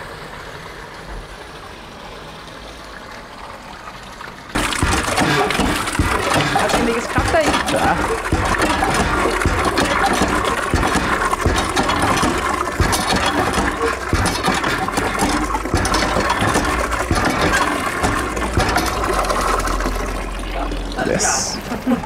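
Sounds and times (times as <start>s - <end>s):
water pouring into gutter: 0.0s - 22.0s.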